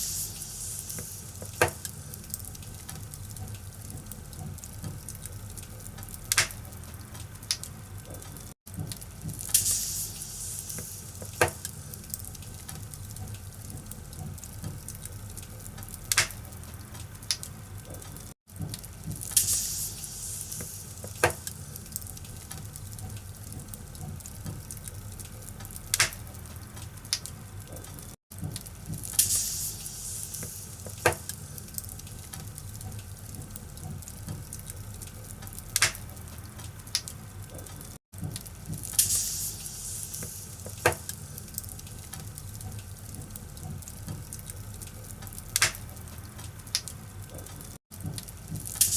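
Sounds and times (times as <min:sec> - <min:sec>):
fire rumbling and hissing: 0:00.0 - 0:48.9
wood crackling pops: 0:00.9 - 0:19.6, 0:20.5 - 0:29.4, 0:30.3 - 0:39.2, 0:40.1 - 0:48.9.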